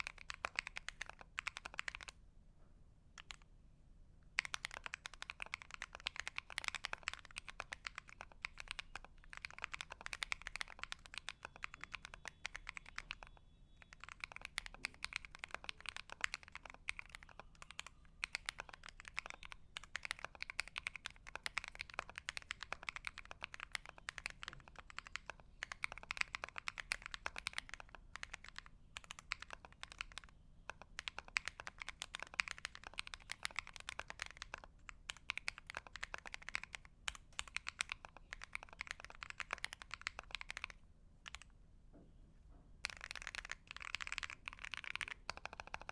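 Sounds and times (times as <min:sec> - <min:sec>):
mechanical keyboard typing: 0:00.0 - 0:02.1, 0:03.2 - 0:03.4, 0:04.4 - 0:41.5, 0:42.8 - 0:45.9.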